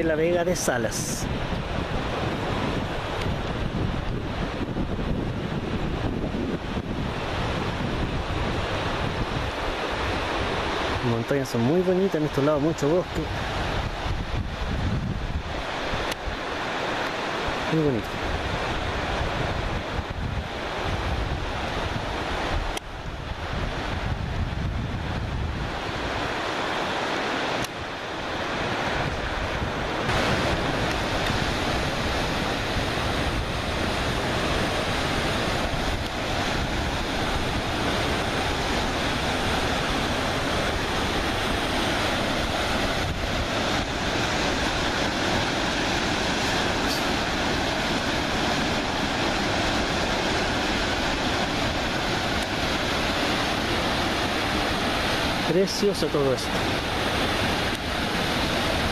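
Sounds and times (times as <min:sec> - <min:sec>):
river rapids rushing over boulders: 0:00.0 - 0:58.9.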